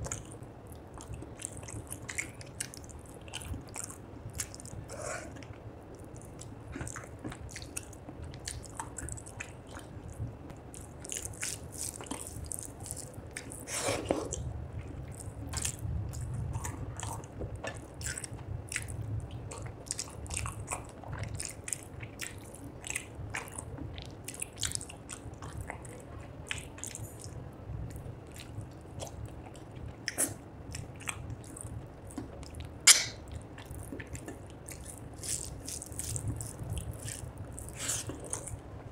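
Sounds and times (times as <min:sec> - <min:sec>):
person chewing with wet mouth sounds: 0:00.0 - 0:38.9.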